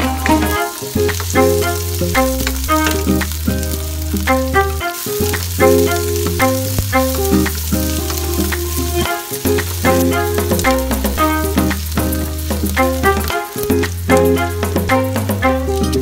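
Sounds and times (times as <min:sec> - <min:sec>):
background music with beat: 0:00.0 - 0:16.0
onion and garlic sizzling in oil: 0:00.0 - 0:16.0
wooden spatula stirring pan: 0:00.0 - 0:16.0.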